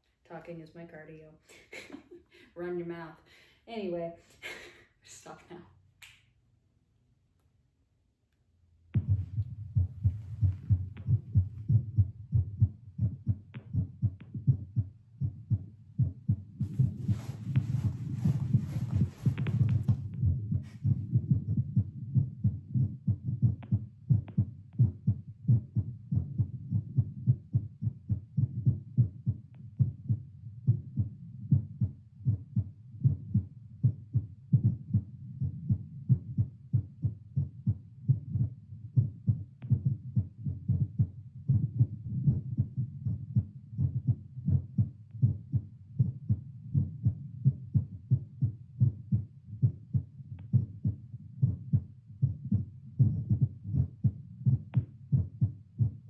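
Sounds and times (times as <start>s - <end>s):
heartbeat through stethoscope: 9.0s - 56.0s.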